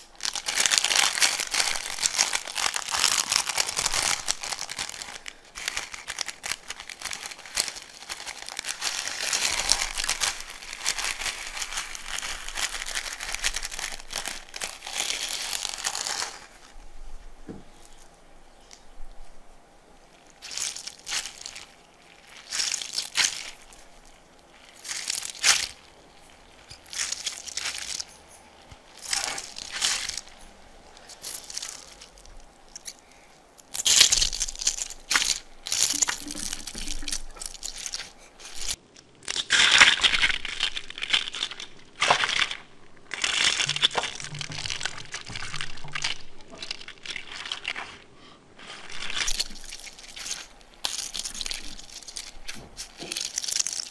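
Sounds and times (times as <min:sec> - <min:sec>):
squeezed stress ball crackling: 0:00.0 - 0:16.8, 0:17.5 - 0:53.9.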